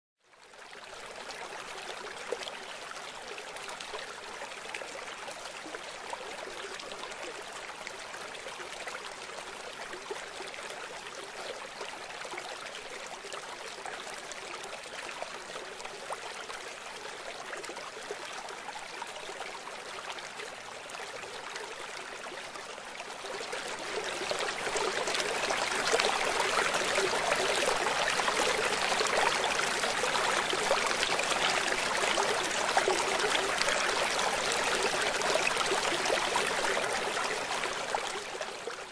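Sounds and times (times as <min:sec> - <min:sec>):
stream water running over rocks: 0:00.6 - 0:38.9.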